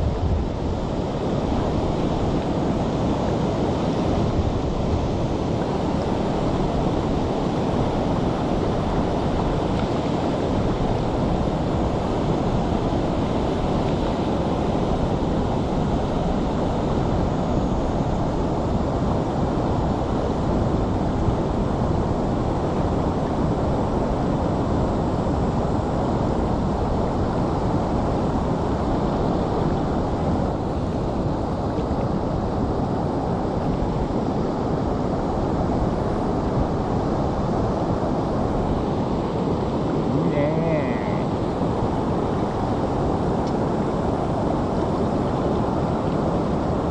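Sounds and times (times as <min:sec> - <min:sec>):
fast-flowing river rushing: 0:00.0 - 0:46.9.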